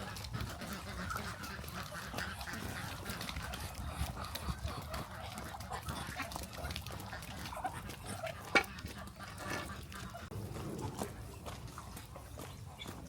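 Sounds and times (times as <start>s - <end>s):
farm animals calling: 0.0s - 13.0s.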